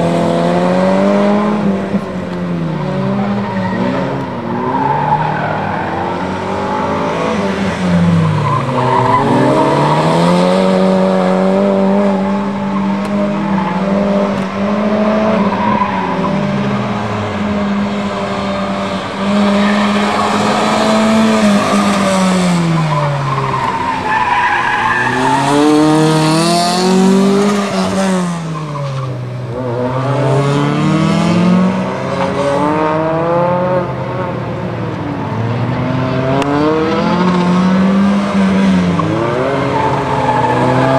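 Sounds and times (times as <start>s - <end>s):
car engine revving: 0.0s - 34.5s, 35.2s - 40.9s.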